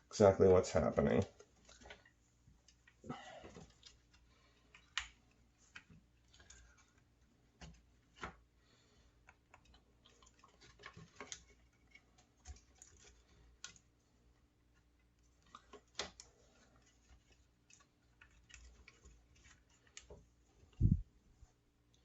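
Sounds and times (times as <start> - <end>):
small parts clicking and scraping: 1.2 - 8.2, 9.1 - 21.0.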